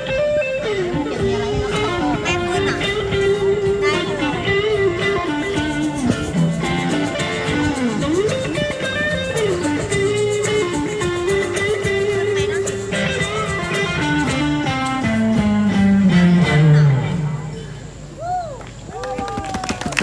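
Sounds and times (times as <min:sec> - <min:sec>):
melodic guitar with sliding notes: 0:00.0 - 0:18.1
guitar accompaniment: 0:00.0 - 0:18.2.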